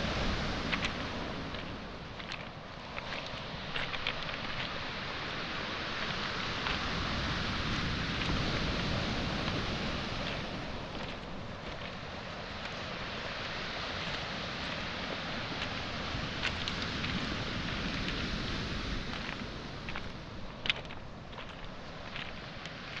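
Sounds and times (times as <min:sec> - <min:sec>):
waves washing on pebble shore: 0:00.0 - 0:23.0
faint pebble clicks: 0:00.1 - 0:07.0, 0:08.1 - 0:18.4, 0:19.0 - 0:23.0.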